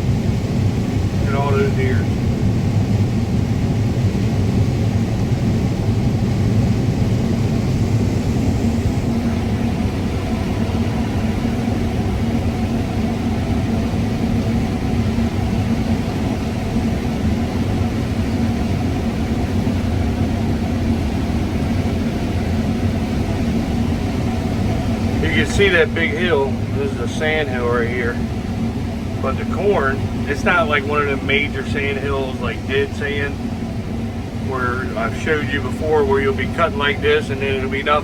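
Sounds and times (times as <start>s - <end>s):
combine harvester engine drone: 0.0s - 38.0s.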